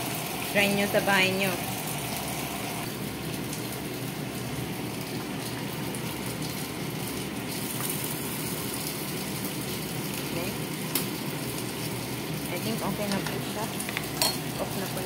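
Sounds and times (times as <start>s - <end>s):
broth boiling in a pot: 0.0s - 15.0s.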